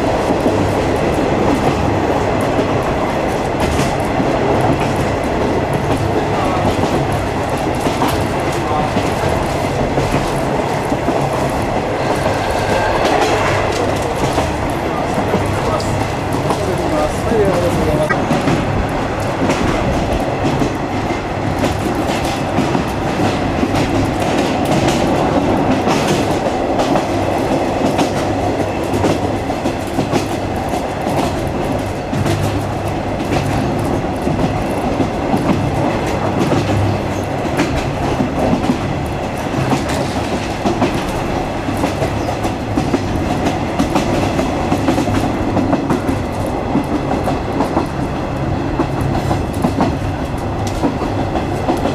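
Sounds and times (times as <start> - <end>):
train coach rumbling: 0.0 - 51.9.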